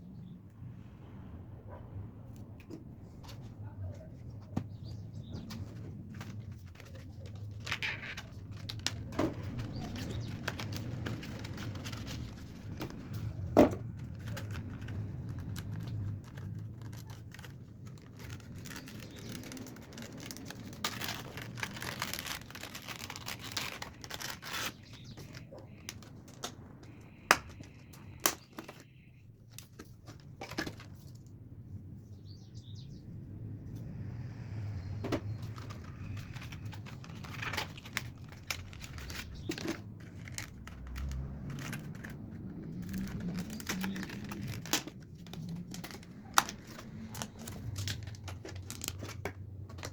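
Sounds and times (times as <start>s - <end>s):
packaging rustling and crinkling: 4.2s - 28.9s, 29.5s - 31.2s, 35.1s - 49.9s.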